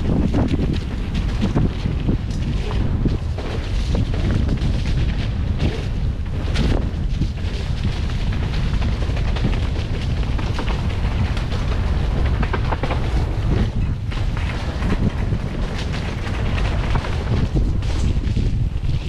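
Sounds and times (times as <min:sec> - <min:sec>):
bike rattles and knocks: 0:00.0 - 0:19.0
wind rumble on microphone: 0:00.0 - 0:19.0.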